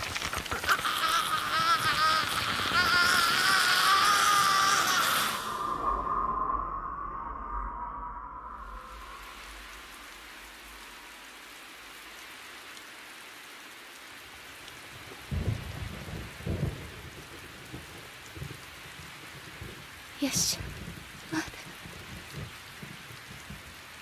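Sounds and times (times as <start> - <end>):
steady rain falling: 0.0 - 6.3, 8.5 - 24.0
thunder rumbling: 0.0 - 11.0, 15.3 - 24.0.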